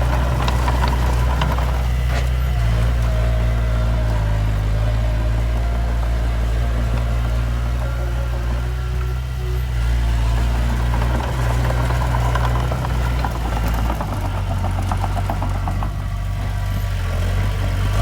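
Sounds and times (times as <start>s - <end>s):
rapid metallic clatter: 0.0s - 17.6s
heavy diesel engine running: 0.0s - 18.0s.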